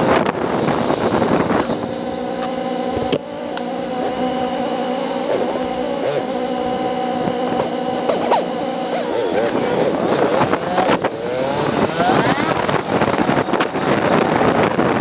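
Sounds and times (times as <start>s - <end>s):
motorcycle engine running: 0.0s - 15.0s
wind rush: 0.0s - 15.0s.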